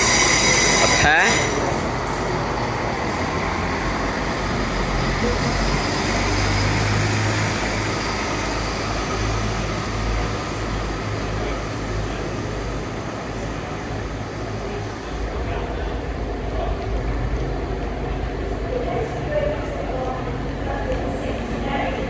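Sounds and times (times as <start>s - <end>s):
diesel train engines droning: 0.0s - 22.0s.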